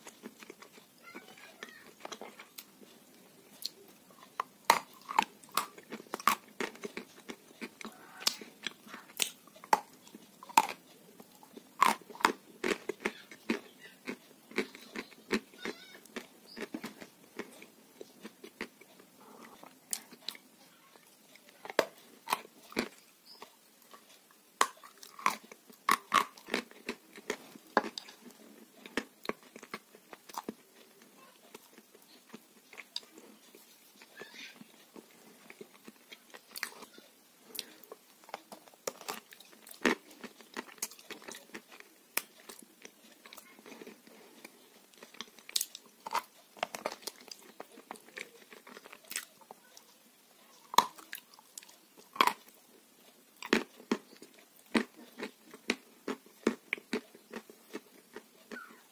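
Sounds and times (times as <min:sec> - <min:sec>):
chalk crunching while chewed: 0:00.0 - 0:20.4, 0:21.4 - 0:49.9, 0:50.6 - 0:58.8.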